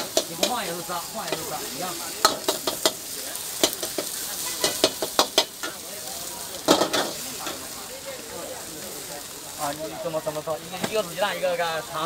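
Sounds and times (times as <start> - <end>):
stir-fry sizzling in a wok: 0.0 - 12.0.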